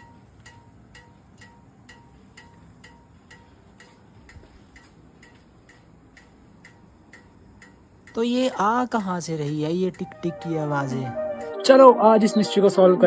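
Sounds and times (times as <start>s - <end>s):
metallic ticking of cooling exhaust: 0.0s - 11.6s.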